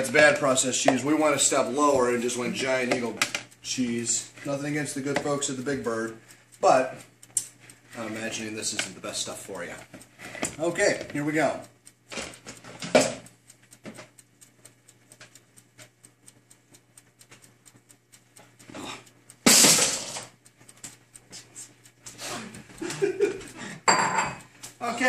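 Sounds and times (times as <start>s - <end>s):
faint rapid clicking: 0.0s - 25.0s.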